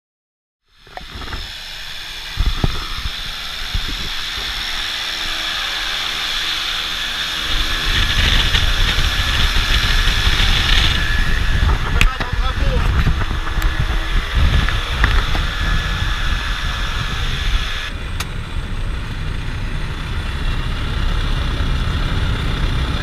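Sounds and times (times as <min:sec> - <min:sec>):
propeller aircraft engine running: 0:00.6 - 0:23.0.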